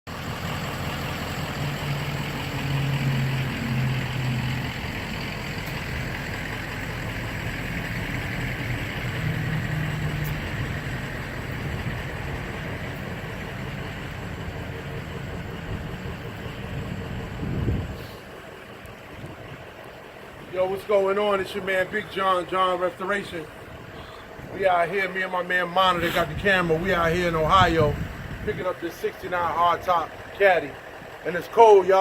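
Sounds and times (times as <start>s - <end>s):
vehicle engine running: 0.1s - 32.0s.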